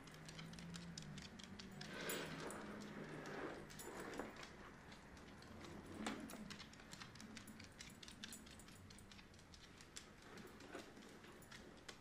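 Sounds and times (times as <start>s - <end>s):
dog claws clicking on hardwood: 0.0s - 12.0s.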